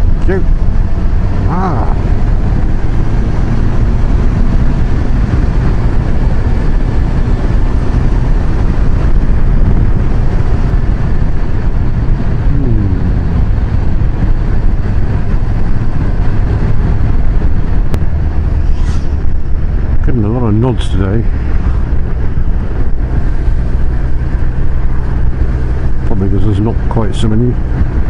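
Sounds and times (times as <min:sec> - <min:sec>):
motorcycle engine drone: 0:00.0 - 0:28.0
wind rush: 0:00.0 - 0:28.0.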